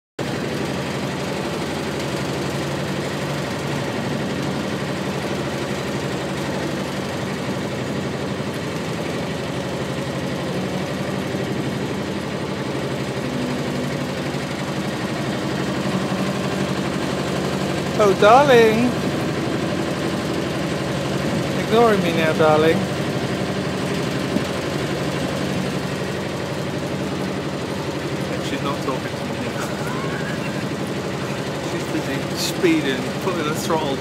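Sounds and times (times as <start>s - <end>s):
motorboat engine running: 0.2s - 34.0s.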